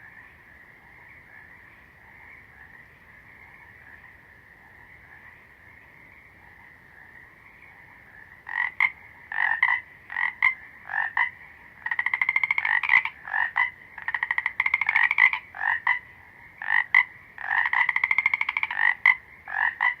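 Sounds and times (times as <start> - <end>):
frog chorus: 0.0 - 20.0
frog croaks and trills: 0.0 - 20.0.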